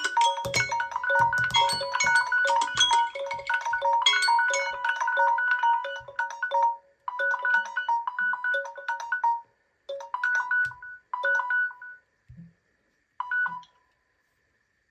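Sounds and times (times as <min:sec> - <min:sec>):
phone alarm chime melody: 0:00.0 - 0:12.0.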